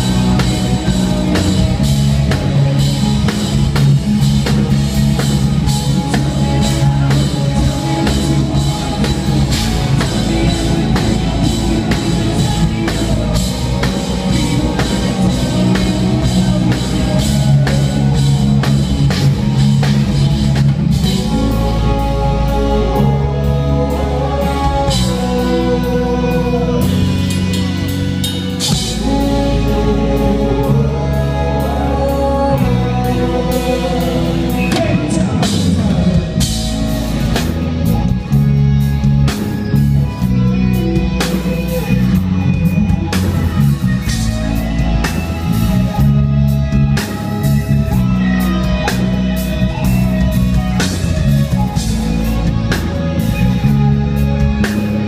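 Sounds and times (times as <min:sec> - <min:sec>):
live rock band: 0:00.0 - 0:55.0.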